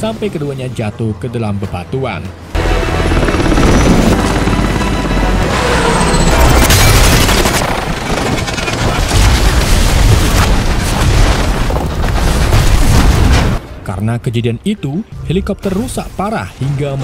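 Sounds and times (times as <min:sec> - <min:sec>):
dramatic film music: 0:00.0 - 0:17.0.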